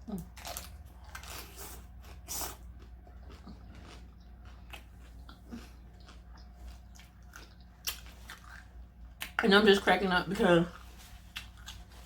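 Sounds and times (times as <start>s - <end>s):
person chewing: 0.0s - 9.4s, 10.7s - 12.0s.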